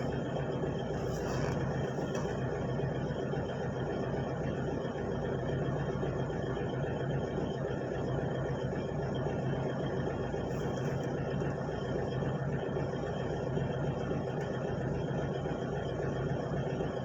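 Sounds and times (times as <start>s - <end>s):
excavator diesel engine drone: 0.0s - 17.0s.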